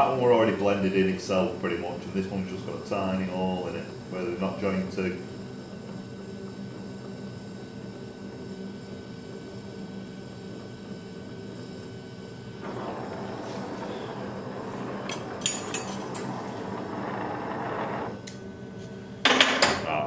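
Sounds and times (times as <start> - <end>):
workshop hum: 0.0 - 20.0.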